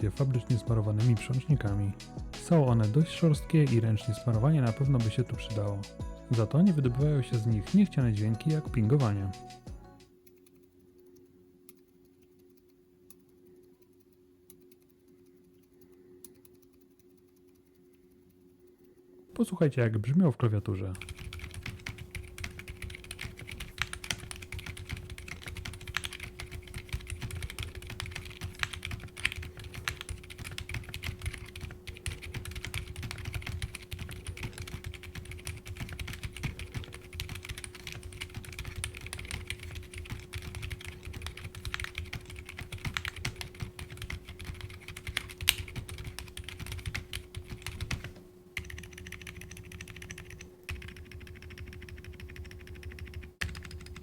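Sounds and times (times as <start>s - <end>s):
muted mechanical keyboard typing: 0.0s - 1.9s, 10.3s - 18.9s, 20.9s - 54.0s
steady low hum: 3.8s - 54.0s.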